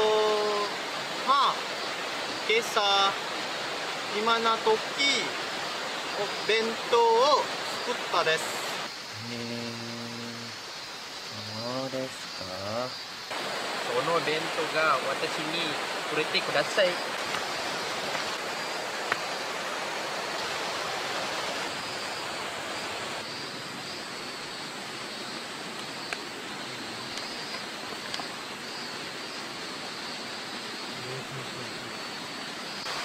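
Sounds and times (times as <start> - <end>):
river water rushing: 0.0 - 9.1, 13.3 - 33.0.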